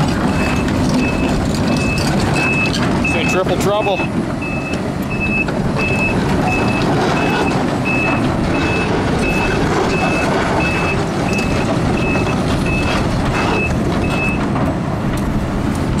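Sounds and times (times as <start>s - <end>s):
excavator travel alarm beeping: 0.0s - 14.5s
diesel engine running: 0.0s - 16.0s.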